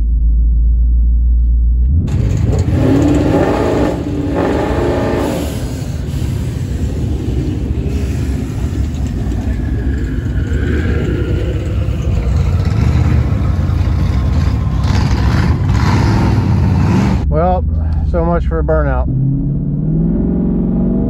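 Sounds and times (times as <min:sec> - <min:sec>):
car engine at low throttle: 0:00.0 - 0:21.0.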